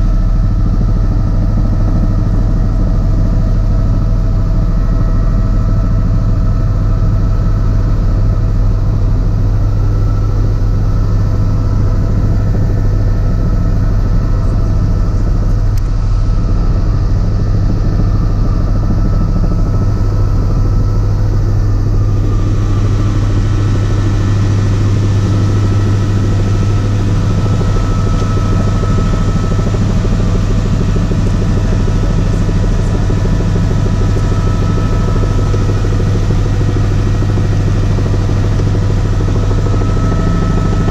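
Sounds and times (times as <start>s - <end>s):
helicopter cabin drone and whine: 0.0s - 40.9s.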